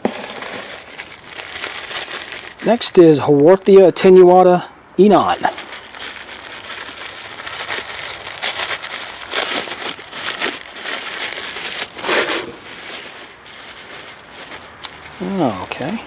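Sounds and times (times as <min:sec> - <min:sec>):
wrapping crinkling and rustling: 0:00.0 - 0:04.3, 0:05.1 - 0:16.0.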